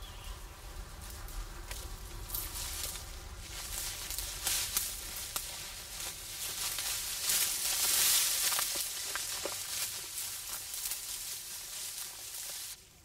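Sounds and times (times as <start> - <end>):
wheat stalks rustling and crackling: 0.0 - 13.0.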